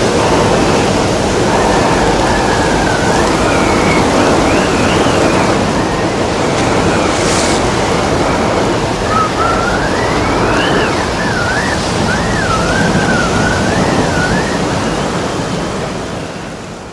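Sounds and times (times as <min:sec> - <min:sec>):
thin wind whistle: 0:00.0 - 0:16.6
crashing waves: 0:00.0 - 0:16.9
stormy wind: 0:00.0 - 0:16.9.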